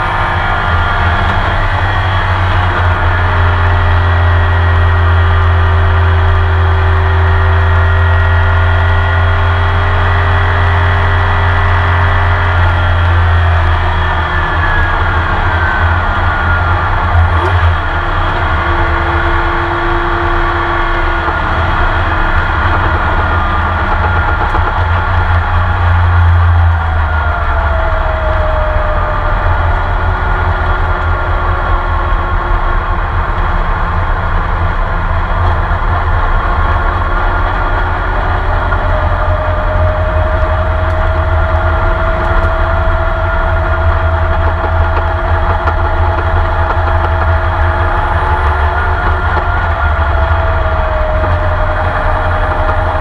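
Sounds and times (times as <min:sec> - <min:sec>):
race car engine running: 0:00.0 - 0:53.0
thin whine: 0:00.0 - 0:53.0.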